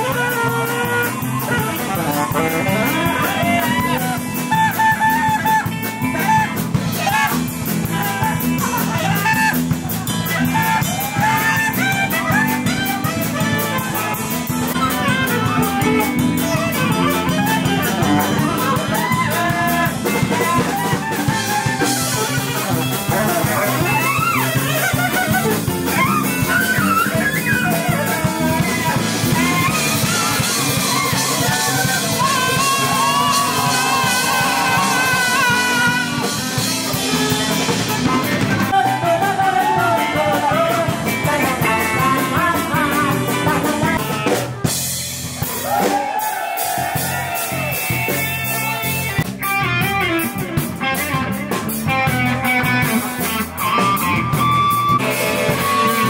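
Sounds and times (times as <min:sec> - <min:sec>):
saxophone solo: 0:00.0 - 0:44.8, 0:45.6 - 0:56.0
drum kit: 0:00.0 - 0:56.0
guitar: 0:00.0 - 0:56.0.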